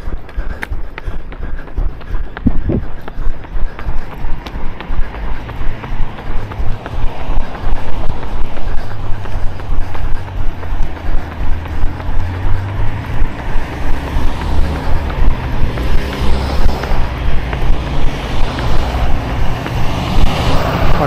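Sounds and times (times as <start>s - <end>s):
running footsteps thudding: 0.0s - 21.0s.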